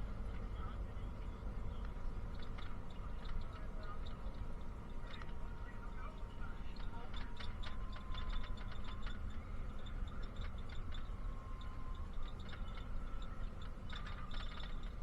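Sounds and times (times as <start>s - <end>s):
bus engine and road rumble: 0.0s - 15.0s
light clicking rattles: 0.0s - 15.0s.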